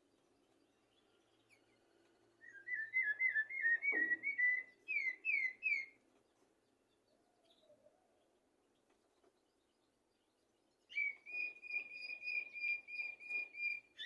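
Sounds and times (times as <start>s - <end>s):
blackbird singing: 0.4s - 6.0s, 6.6s - 14.0s.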